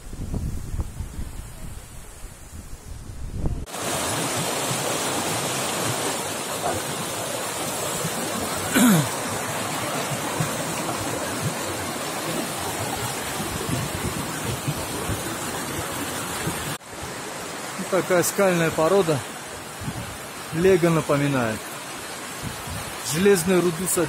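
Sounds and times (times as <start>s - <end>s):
stream rushing over rocks: 3.6s - 24.0s.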